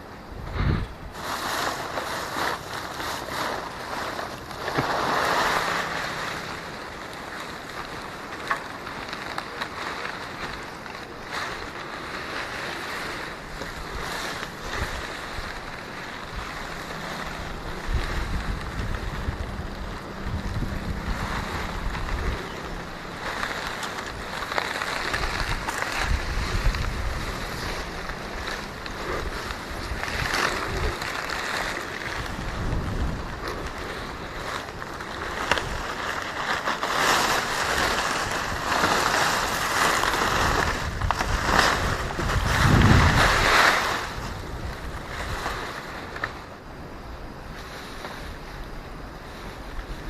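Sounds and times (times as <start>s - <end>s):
storm wind and rain: 0.0s - 50.0s
wind buffeting microphone: 0.0s - 50.0s.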